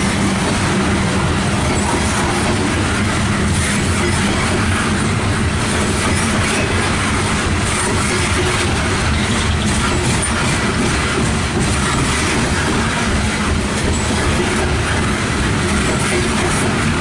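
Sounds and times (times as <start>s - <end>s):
steel wheels on rails: 0.0s - 17.0s.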